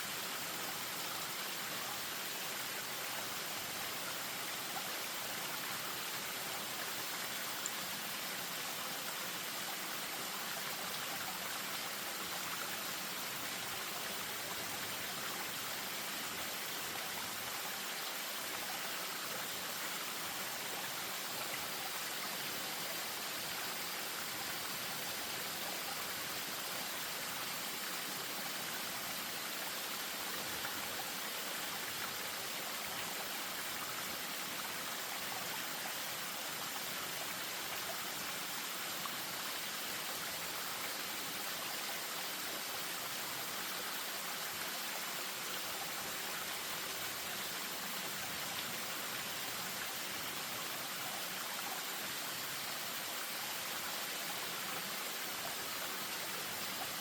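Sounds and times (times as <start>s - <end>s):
stream over small waterfall: 0.0s - 57.0s.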